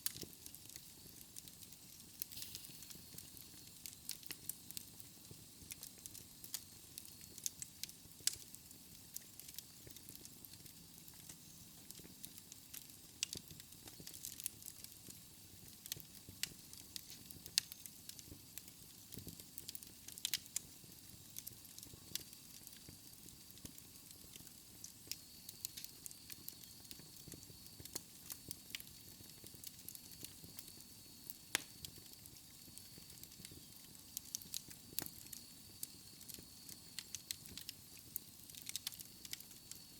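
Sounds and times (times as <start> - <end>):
fire crackling and popping: 0.0 - 39.9
soft steady hiss: 0.0 - 39.9.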